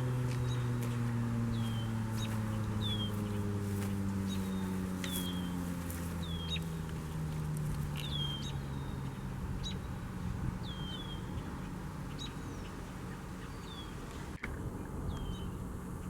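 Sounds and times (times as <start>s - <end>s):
bird chirping: 0.0s - 14.2s, 15.1s - 15.6s.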